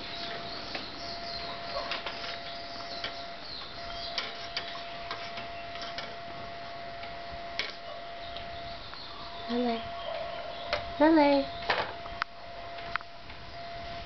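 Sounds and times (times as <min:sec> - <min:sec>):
faint high hum: 0:00.0 - 0:14.0.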